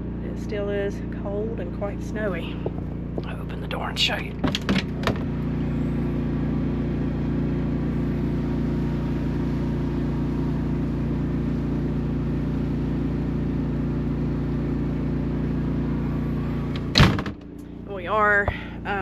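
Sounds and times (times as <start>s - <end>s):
generator engine hum: 0.0s - 19.0s.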